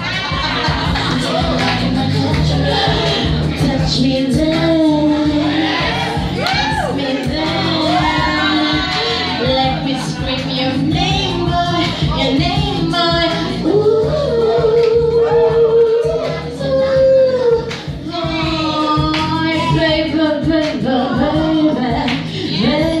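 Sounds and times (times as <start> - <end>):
backing music: 0.0 - 23.0
woman singing: 0.0 - 23.0.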